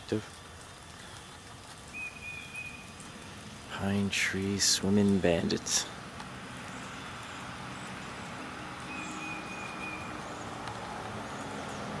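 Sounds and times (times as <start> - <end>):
distant traffic hum: 0.0 - 12.0
steady hiss: 0.0 - 12.0.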